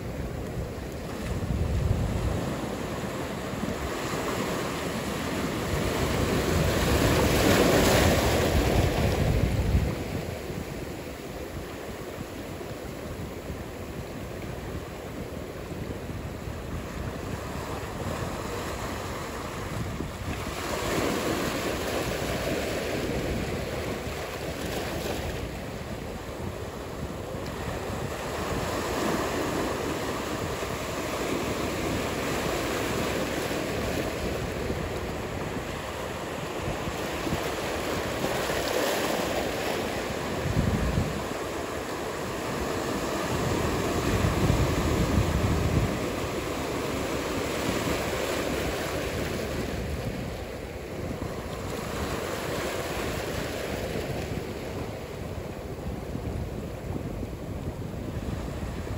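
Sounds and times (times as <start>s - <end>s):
ocean surf washing: 0.0s - 58.9s
wind noise: 0.0s - 58.9s.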